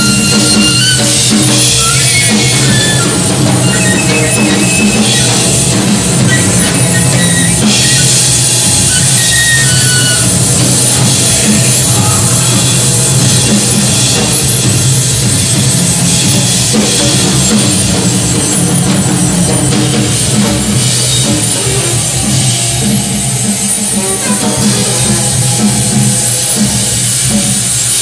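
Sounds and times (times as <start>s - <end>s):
drum kit played hard: 0.0s - 28.0s.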